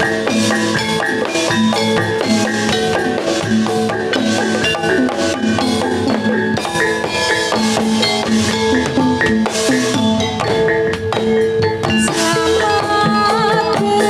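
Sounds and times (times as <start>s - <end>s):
hand drums beating: 0.0s - 14.0s
metallophones ringing: 0.0s - 14.0s.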